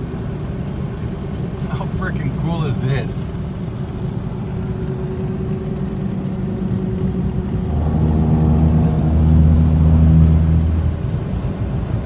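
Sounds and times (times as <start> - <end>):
low engine hum: 0.0 - 12.0
low road rumble: 0.0 - 12.0.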